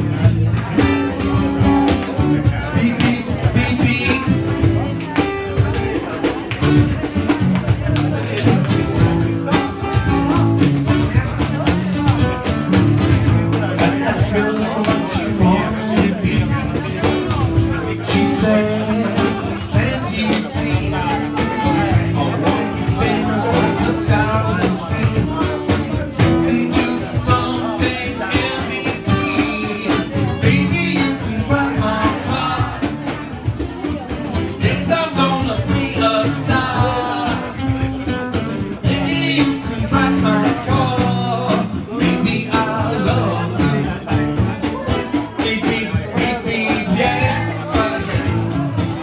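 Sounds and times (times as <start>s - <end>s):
rock and roll band music: 0.0s - 49.0s.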